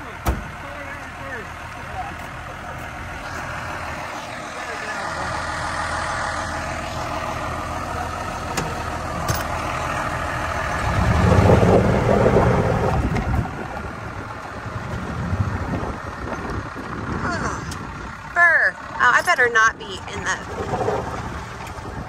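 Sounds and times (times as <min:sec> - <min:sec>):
vehicle engine running and revving: 0:00.0 - 0:22.0.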